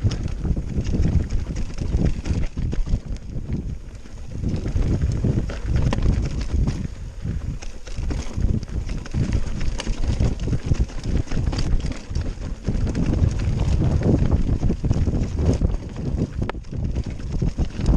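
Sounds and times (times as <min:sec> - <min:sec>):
bike rattles and knocks: 0:00.0 - 0:17.9
wind buffeting microphone: 0:00.0 - 0:17.9.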